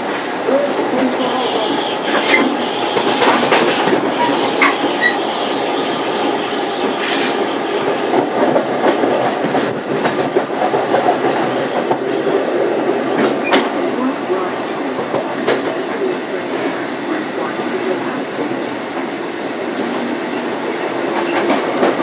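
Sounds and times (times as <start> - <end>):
rail joint clicks: 0.0 - 22.0
train wheels on rails: 0.0 - 22.0.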